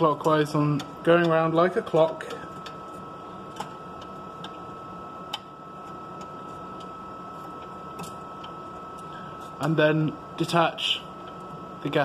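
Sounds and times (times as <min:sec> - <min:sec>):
faint hum with high tone: 0:00.0 - 0:12.0.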